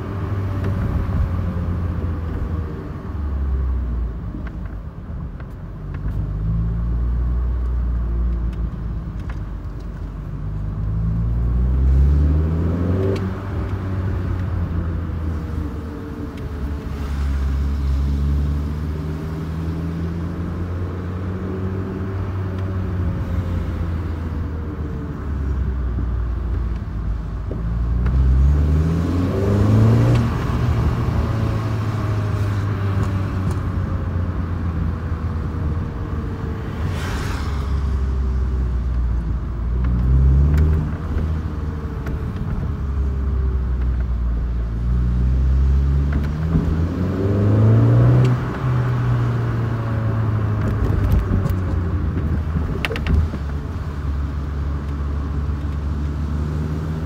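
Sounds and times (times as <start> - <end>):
car engine accelerating: 5.9 - 57.0.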